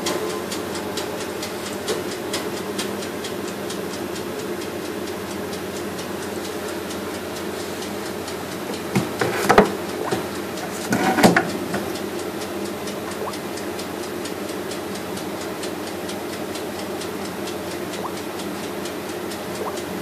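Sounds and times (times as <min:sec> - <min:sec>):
mechanical hum: 0:00.0 - 0:20.0
fast even ticking: 0:00.5 - 0:10.7, 0:11.5 - 0:20.0.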